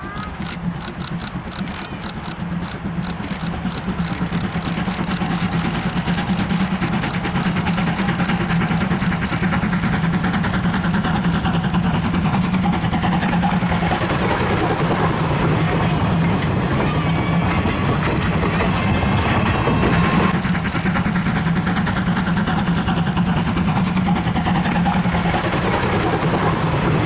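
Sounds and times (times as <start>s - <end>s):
vehicle engine clattering: 0.0s - 27.0s.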